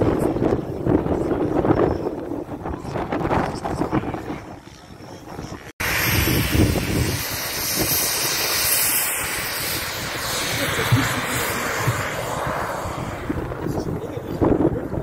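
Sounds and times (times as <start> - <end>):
model airplane engine drone: 0.0 - 15.0
wind buffeting microphone: 0.0 - 15.0.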